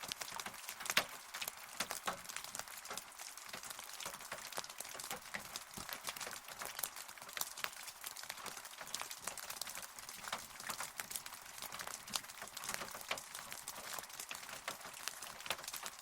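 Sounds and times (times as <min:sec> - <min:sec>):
rain falling: 0:00.0 - 0:16.0
raindrops tapping close by: 0:00.0 - 0:16.0.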